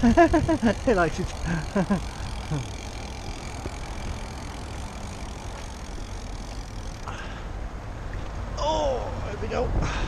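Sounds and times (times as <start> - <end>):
road traffic noise: 0.0 - 10.0
vehicle engine rumbling: 0.0 - 10.0.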